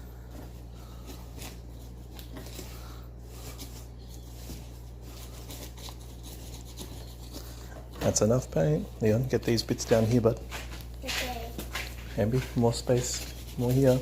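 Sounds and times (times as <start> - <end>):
steady low hum: 0.0 - 14.0
paintbrush strokes on paper: 0.4 - 14.0.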